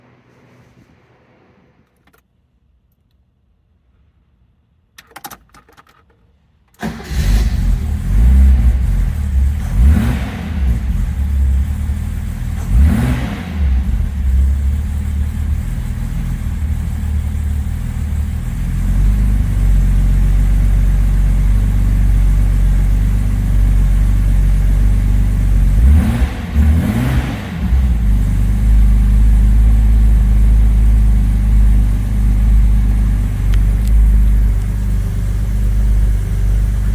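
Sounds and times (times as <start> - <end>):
car engine starting and revving: 6.8 - 36.9.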